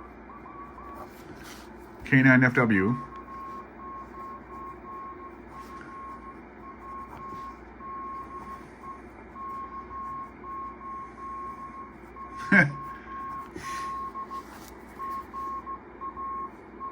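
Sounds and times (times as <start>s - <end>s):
morse code tone: 0.0s - 16.9s.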